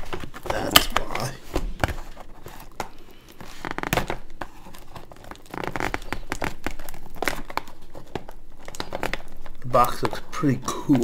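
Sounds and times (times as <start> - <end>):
tape peeling and tearing: 0.0 - 10.3
packaging crinkling: 0.0 - 11.0
packaging rustling: 0.0 - 11.0.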